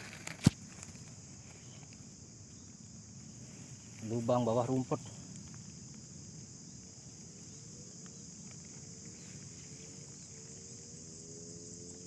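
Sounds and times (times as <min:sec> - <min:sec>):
crickets and insects chirping: 0:00.0 - 0:12.0.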